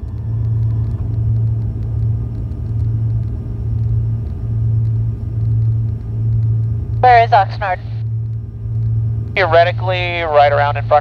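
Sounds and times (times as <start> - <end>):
twin propeller engines droning: 0.0 - 11.0.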